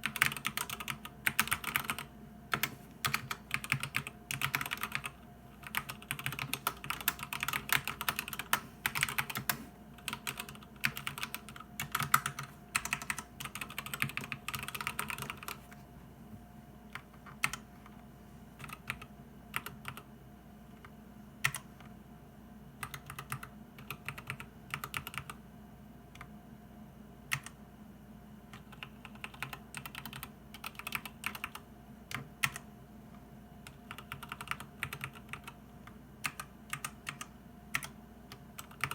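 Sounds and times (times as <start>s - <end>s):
keyboard typing: 0.0s - 15.7s, 16.9s - 18.0s, 18.6s - 20.1s, 20.8s - 21.9s, 22.8s - 25.4s, 28.5s - 32.7s, 33.6s - 38.9s.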